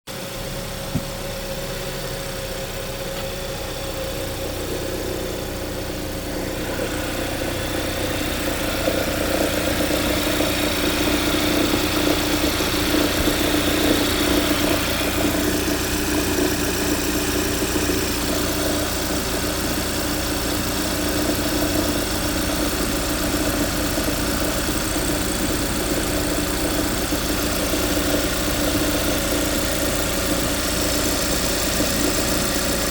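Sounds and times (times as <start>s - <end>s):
car engine idling: 0.1s - 32.9s
engine rattle: 0.1s - 32.9s.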